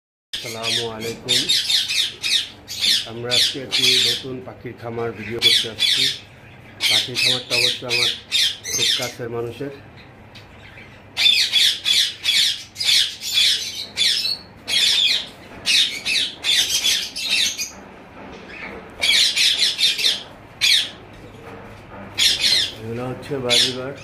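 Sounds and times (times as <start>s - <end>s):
parrots squawking: 0.4s - 4.4s, 5.2s - 9.2s, 10.0s - 17.8s, 18.4s - 21.5s, 22.1s - 22.8s, 23.4s - 24.0s.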